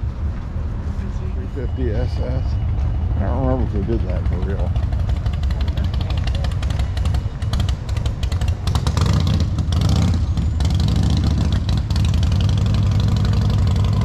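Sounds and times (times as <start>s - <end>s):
car engine idling: 1.4s - 14.0s.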